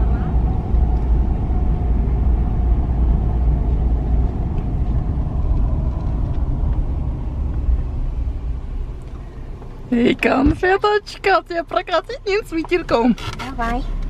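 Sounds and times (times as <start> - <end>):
car interior engine and road rumble: 0.0 - 14.0.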